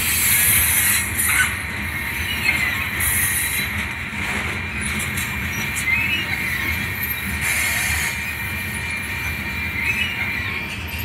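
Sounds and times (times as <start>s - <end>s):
high wheel squeal: 0.0s - 11.0s
train wheels rumbling on rail: 0.0s - 11.0s.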